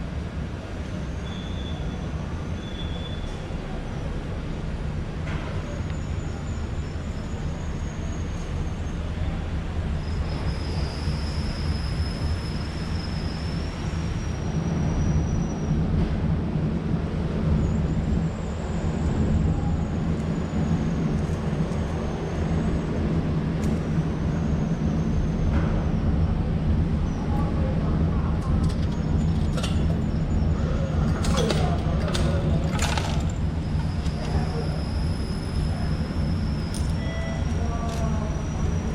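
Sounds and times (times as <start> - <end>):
ferry engine drone: 0.0 - 38.9.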